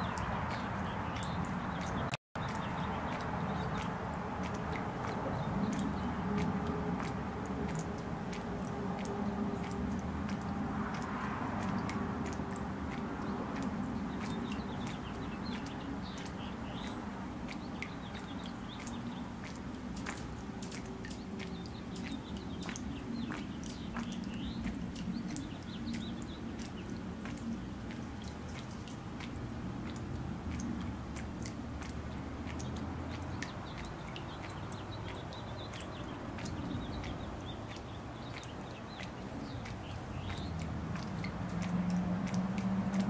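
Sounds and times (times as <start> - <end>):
fountain jet splashing and trickling: 0.0 - 43.0.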